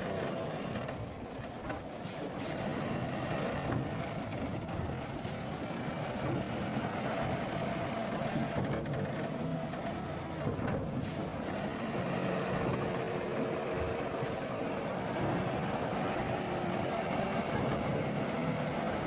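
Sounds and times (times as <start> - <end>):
diesel earthmoving machinery running: 0.0 - 19.0.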